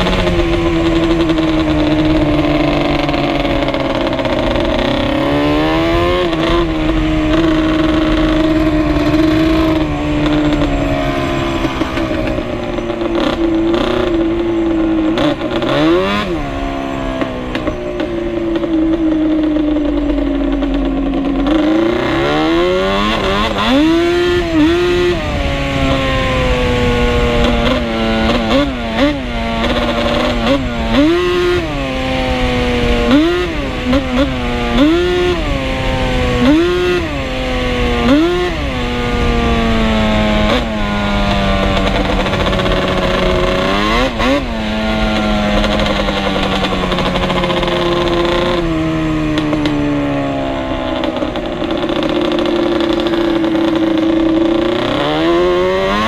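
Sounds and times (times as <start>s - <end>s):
two-stroke engine revving: 0.0s - 56.0s.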